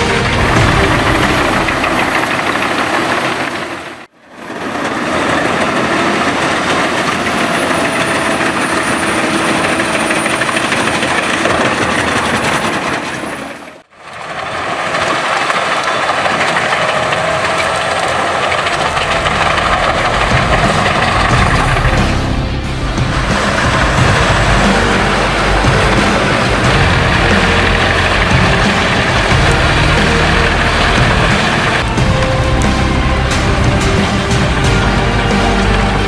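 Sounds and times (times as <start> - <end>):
wood chipper running: 0.0 - 36.0.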